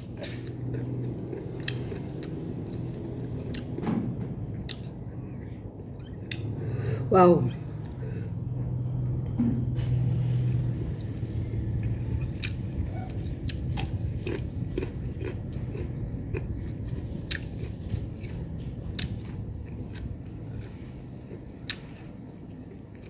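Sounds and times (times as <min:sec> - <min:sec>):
chewing with wet clicks: 0:00.0 - 0:06.8, 0:07.8 - 0:08.6, 0:10.9 - 0:23.0.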